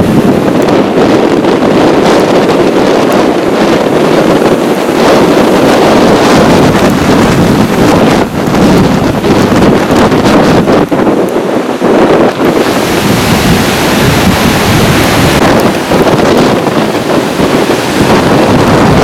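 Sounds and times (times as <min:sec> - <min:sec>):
gusting wind buffeting microphone: 0:00.0 - 0:19.0
heavy surf breaking: 0:00.0 - 0:19.0.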